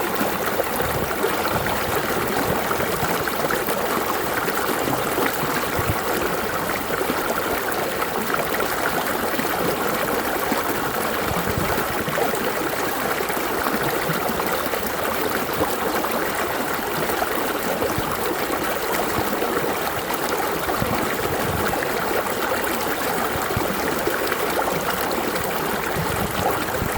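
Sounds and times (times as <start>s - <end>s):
running water flowing: 0.0s - 26.9s.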